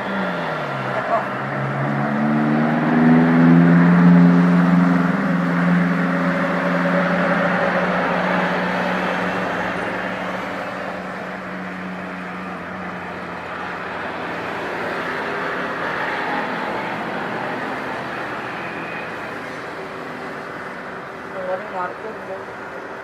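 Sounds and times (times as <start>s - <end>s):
jet airliner roaring past: 0.0s - 22.9s.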